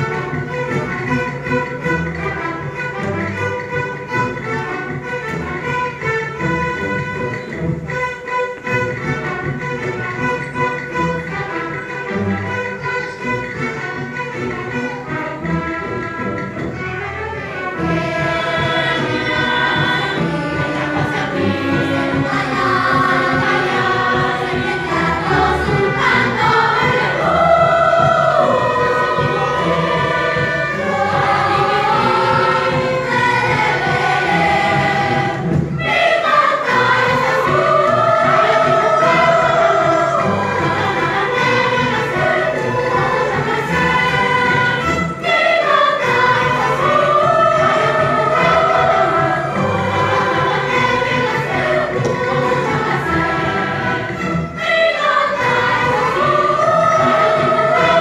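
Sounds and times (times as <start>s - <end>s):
choir singing: 0.0s - 58.0s
string orchestra playing: 0.0s - 58.0s.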